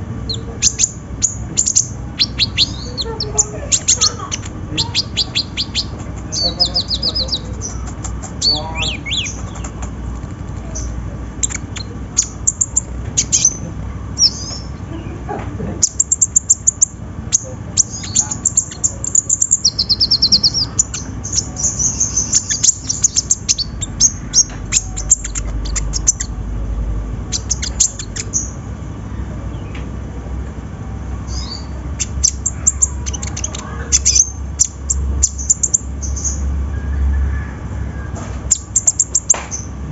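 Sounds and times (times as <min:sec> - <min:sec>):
sunbird chattering song: 0:00.0 - 0:26.4, 0:27.2 - 0:29.9, 0:31.0 - 0:39.8
steady low hum: 0:00.0 - 0:39.9.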